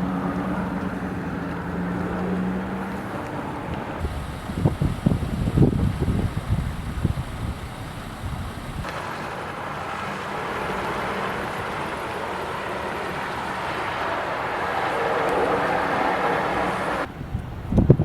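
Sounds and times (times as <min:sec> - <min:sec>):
road traffic: 0:00.0 - 0:18.0
strong wind: 0:00.0 - 0:18.0.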